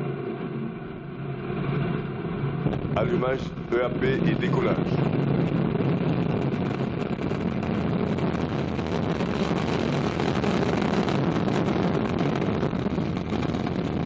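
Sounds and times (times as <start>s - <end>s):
rocket engine rumble: 0.0s - 14.0s.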